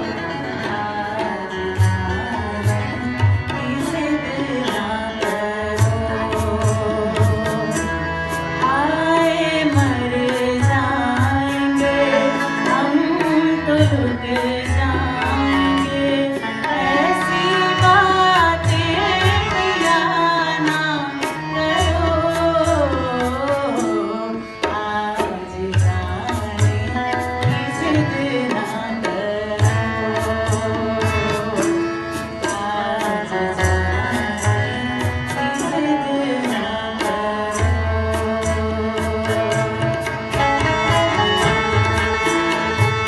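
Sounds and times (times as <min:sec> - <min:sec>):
tabla drum strokes: 0:00.0 - 0:43.0
woman singing into a microphone: 0:00.0 - 0:43.0.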